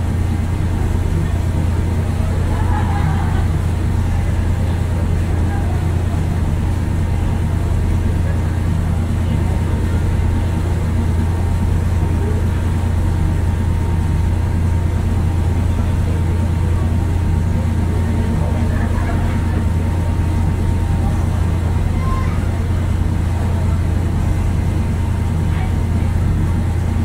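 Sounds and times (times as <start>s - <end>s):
ferry engine droning: 0.0s - 27.0s
wind and water noise: 0.0s - 27.0s.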